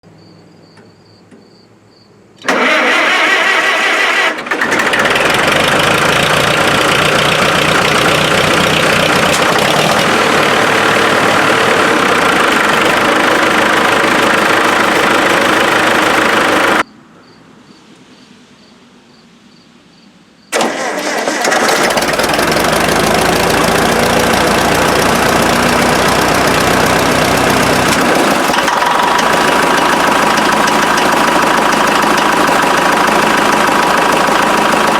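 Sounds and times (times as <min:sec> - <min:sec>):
tractor engine running loudly: 0:02.4 - 0:16.8, 0:20.6 - 0:34.9.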